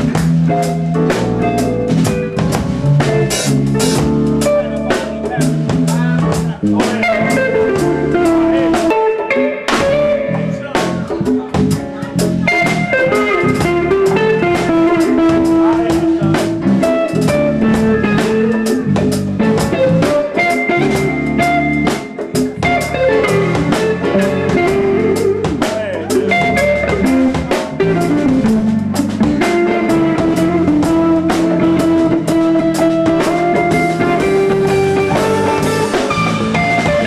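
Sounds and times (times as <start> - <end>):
drum kit with cymbals: 0.0 - 37.0
electric bass: 0.0 - 37.0
electric guitar: 0.0 - 37.0.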